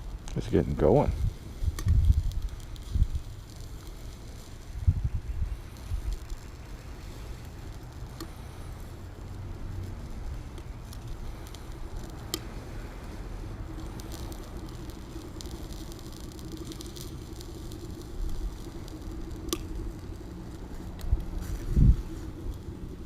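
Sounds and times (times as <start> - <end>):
low steady rumble: 0.0 - 23.0
twig fire crackling: 0.0 - 23.0.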